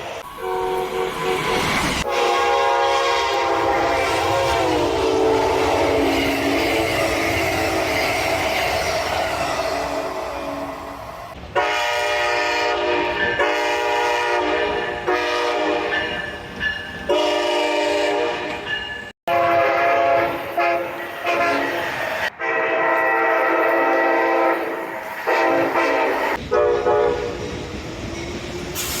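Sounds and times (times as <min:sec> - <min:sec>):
train air horn blasts: 0:00.2 - 0:16.0, 0:17.1 - 0:18.6, 0:19.3 - 0:27.4.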